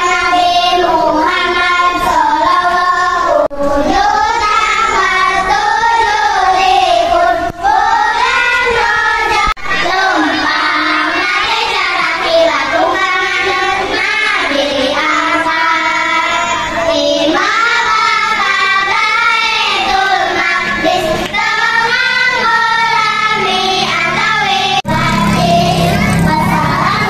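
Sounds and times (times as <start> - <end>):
children singing in unison: 0.0 - 27.0.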